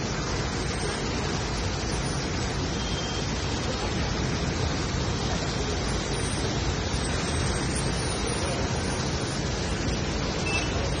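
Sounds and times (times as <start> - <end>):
rain on vehicle: 0.0 - 11.0
tyres on wet road: 0.0 - 11.0.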